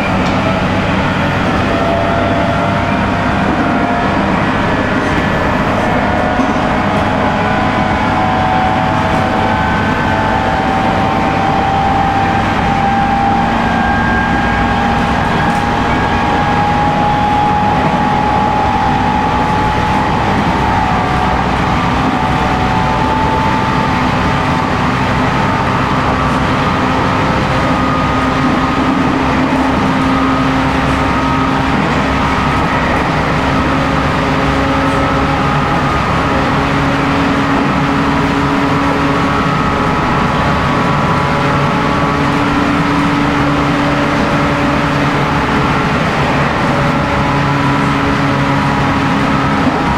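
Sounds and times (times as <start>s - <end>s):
train traction motors whining: 0.0s - 49.9s
wheel and rail rumble: 0.0s - 49.9s.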